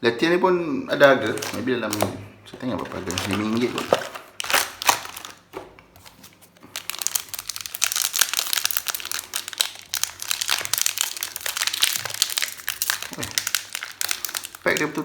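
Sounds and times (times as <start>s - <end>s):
foil wrapper crinkling: 1.2s - 15.0s.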